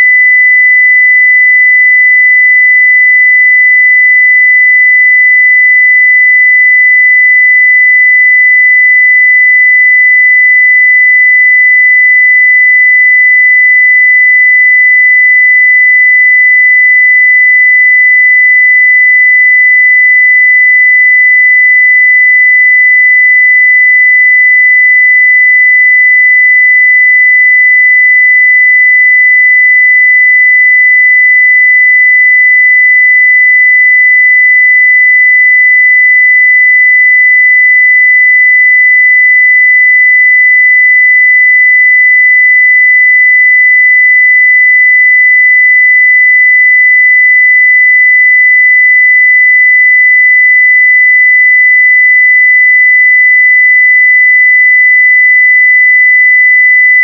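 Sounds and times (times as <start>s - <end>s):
sine-wave test tone: 0.0s - 57.0s.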